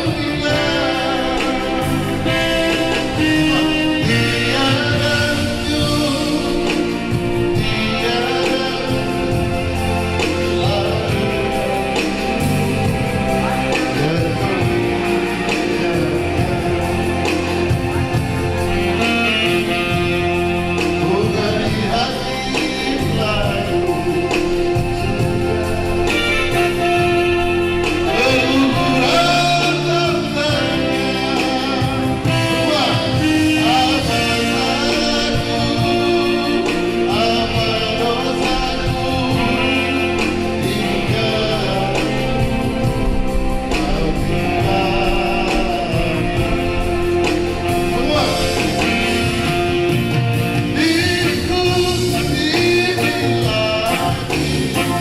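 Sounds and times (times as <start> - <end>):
band with guitar and bass: 0.0 - 55.0
person singing: 0.0 - 55.0.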